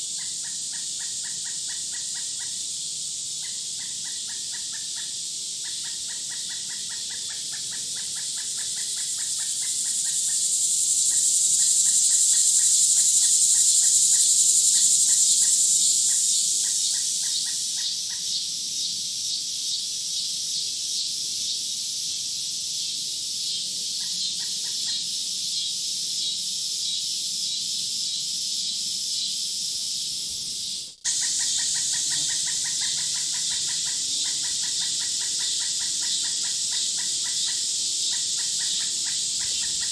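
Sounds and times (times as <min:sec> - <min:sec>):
insect pulsing trill: 0:00.0 - 0:39.9
insects buzzing: 0:00.0 - 0:39.9.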